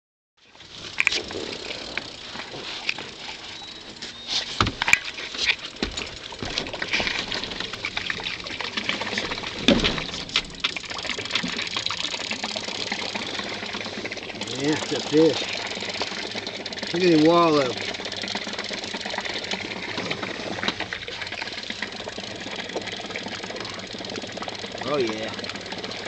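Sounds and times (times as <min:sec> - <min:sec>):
fish thrashing and splashing: 0:00.4 - 0:26.0.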